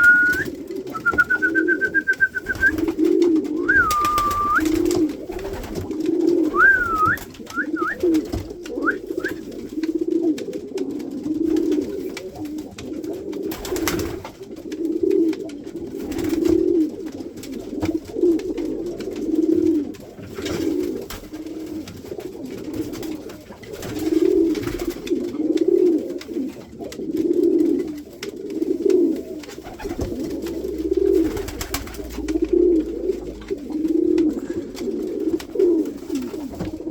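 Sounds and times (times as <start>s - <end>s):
pigeons cooing: 0.0s - 36.9s.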